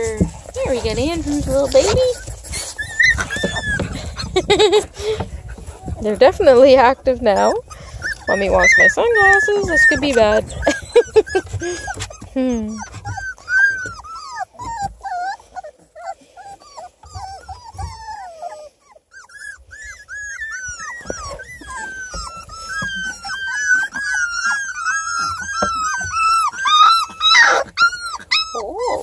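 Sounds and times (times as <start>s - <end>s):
puppies whining and crying: 0.0s - 29.0s.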